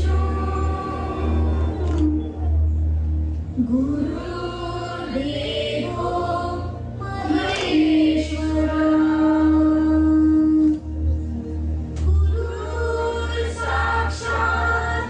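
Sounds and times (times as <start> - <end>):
choir singing: 0.0 - 2.8, 3.6 - 10.8, 12.1 - 15.0
steady low bass: 0.0 - 15.0.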